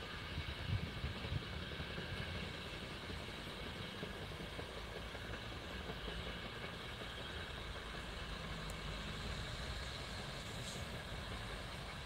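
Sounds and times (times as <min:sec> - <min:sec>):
low vehicle rumble: 0:00.3 - 0:12.0.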